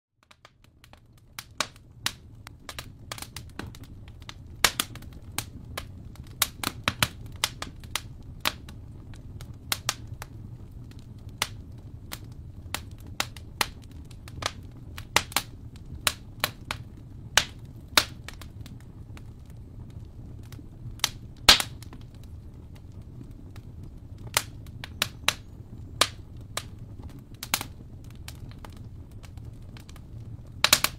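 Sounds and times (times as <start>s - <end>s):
wood fire crackling: 0.2s - 30.9s.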